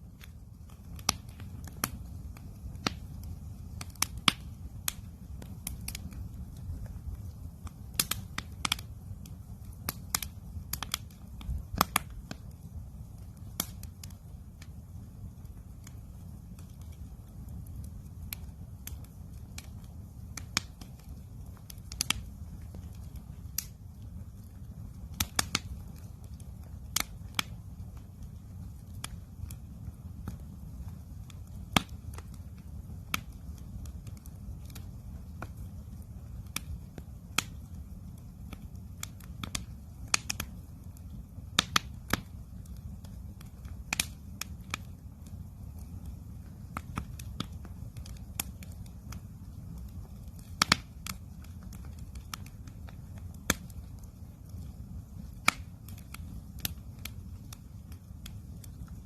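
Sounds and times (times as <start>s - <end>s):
fire pops and snaps: 0.0s - 59.0s
low rumble of flames: 0.0s - 59.0s.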